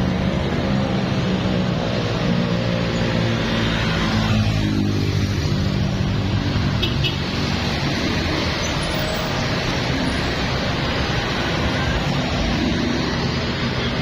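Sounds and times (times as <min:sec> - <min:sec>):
rush of passing traffic: 0:00.0 - 0:14.0.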